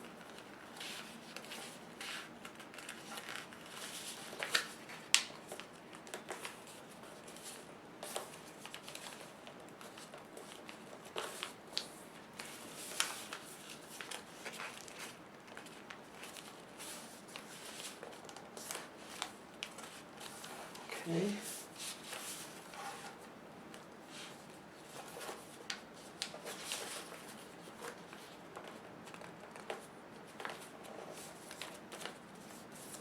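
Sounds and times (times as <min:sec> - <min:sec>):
paper folding and crinkling: 0:00.0 - 0:33.0.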